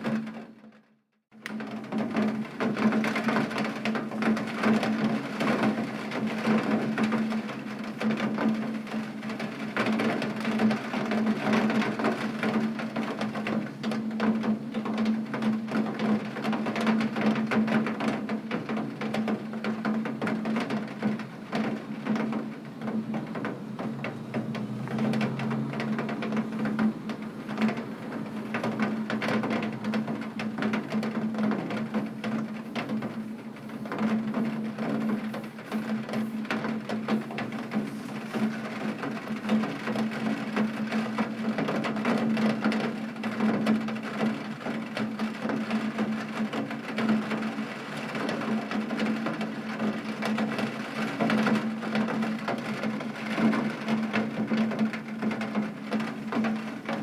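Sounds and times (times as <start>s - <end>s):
heavy rain on a window: 0.0s - 57.0s.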